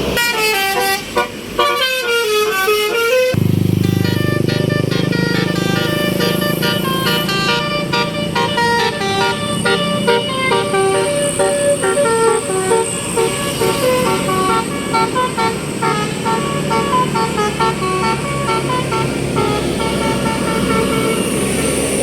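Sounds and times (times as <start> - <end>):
bus engine rumble: 0.0 - 22.0
bus musical air horn tune: 0.0 - 22.0.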